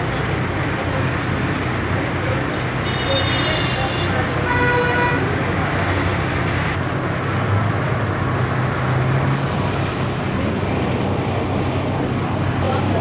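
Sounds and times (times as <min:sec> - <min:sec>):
bus engine humming: 0:00.0 - 0:13.0
road noise: 0:00.0 - 0:13.0.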